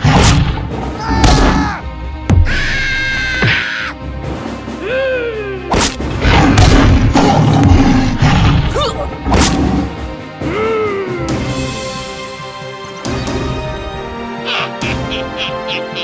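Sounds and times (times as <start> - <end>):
cartoon background music: 0.0 - 16.0.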